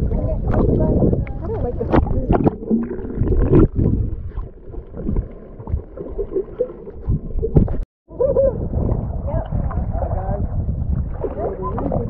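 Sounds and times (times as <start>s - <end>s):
underwater churning rumble: 0.0s - 12.0s.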